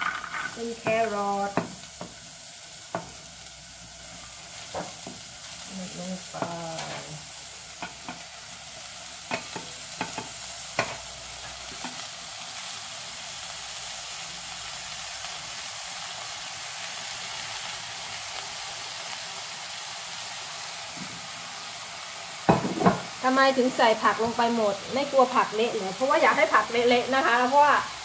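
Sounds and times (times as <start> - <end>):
vegetables sizzling in hot oil: 0.0 - 28.0.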